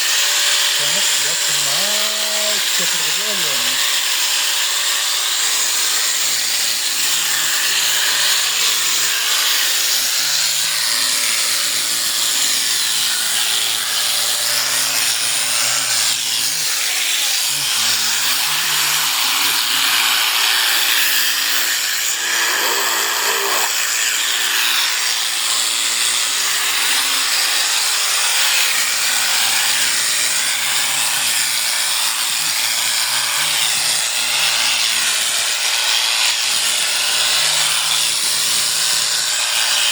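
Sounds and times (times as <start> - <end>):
electric shearing clippers running: 0.0 - 39.9.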